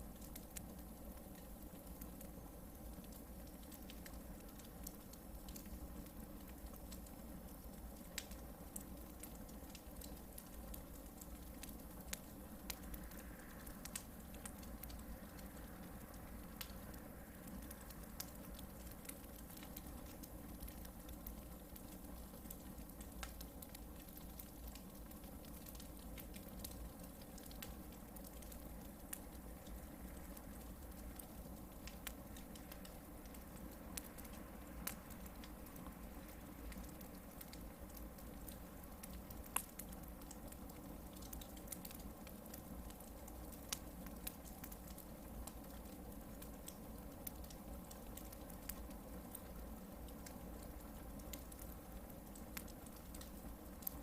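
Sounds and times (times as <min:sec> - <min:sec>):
campfire hissing: 0:00.0 - 0:54.0
fire crackling: 0:00.0 - 0:54.0.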